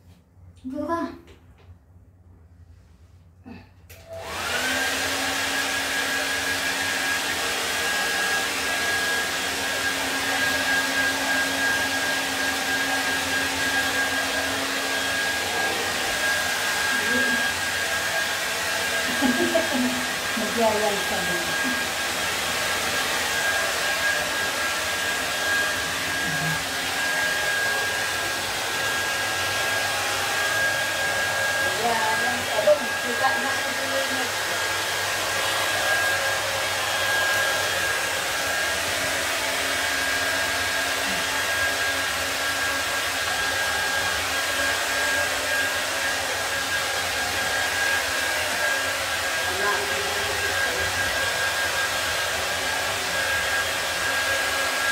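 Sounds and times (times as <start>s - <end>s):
hair dryer running: 3.5s - 54.9s.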